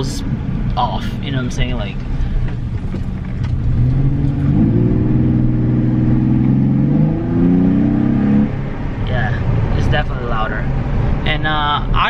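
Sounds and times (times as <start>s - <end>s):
pickup engine accelerating: 0.0s - 11.3s.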